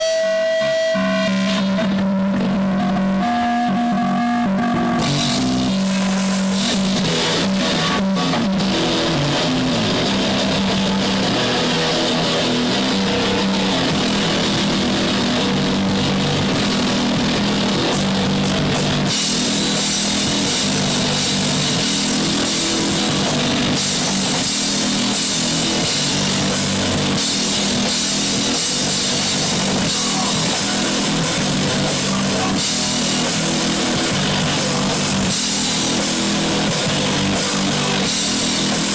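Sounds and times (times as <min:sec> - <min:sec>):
drum kit: 0:00.0 - 0:38.9
electric guitar: 0:00.0 - 0:38.9
punk rock song: 0:00.0 - 0:38.9.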